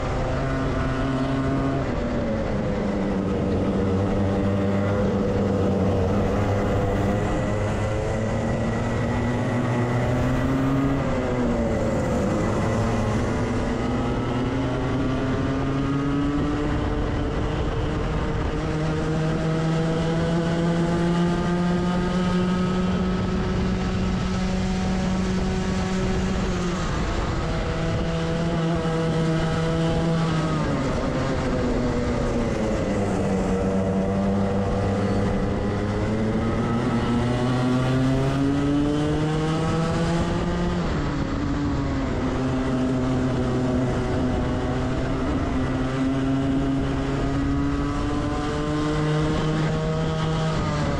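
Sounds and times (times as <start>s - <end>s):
kart two-stroke engine revving: 0.0s - 50.9s.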